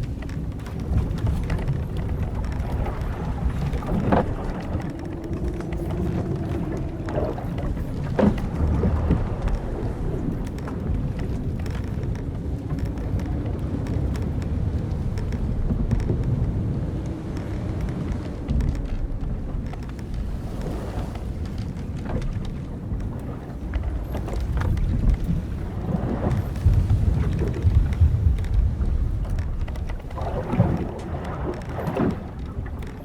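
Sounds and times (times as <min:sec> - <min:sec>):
ship timbers and ropes creaking: 0:00.0 - 0:33.0
wind and sea rumble: 0:00.0 - 0:33.0.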